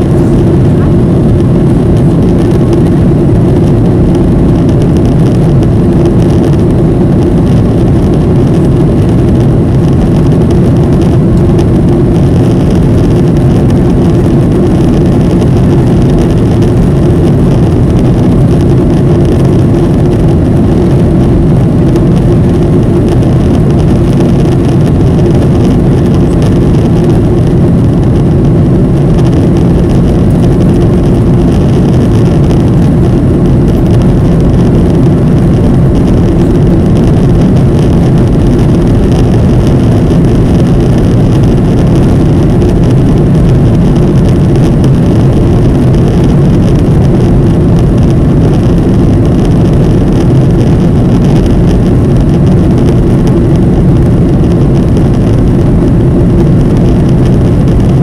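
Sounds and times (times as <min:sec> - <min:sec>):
airplane cabin drone: 0:00.0 - 0:58.0
constant low hum: 0:00.0 - 0:58.0.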